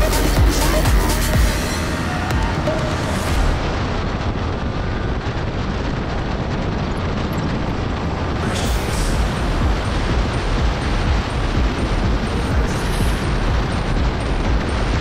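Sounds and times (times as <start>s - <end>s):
wind buffeting microphone: 1.4s - 15.0s.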